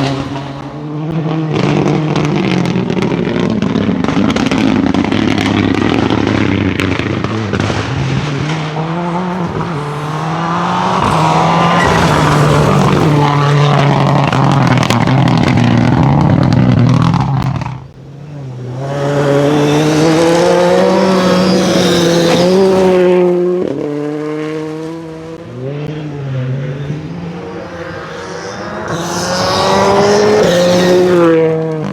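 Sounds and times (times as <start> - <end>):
rally car engine revving: 0.0 - 31.9.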